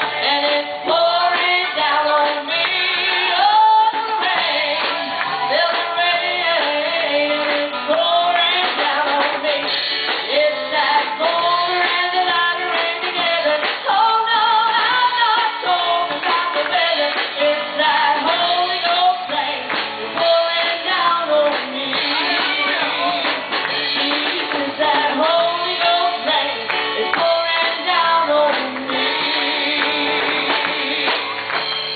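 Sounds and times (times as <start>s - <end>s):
woman singing gospel song: 0.0s - 31.5s
instrumental backing: 0.0s - 31.9s.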